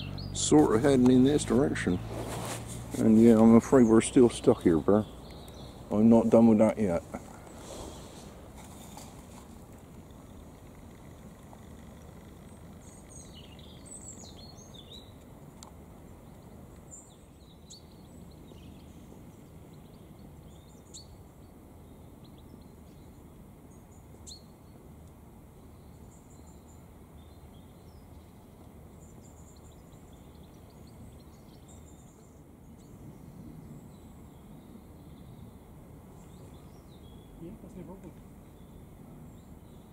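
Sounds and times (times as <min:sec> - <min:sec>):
faint low background noise: 0:00.0 - 0:39.9.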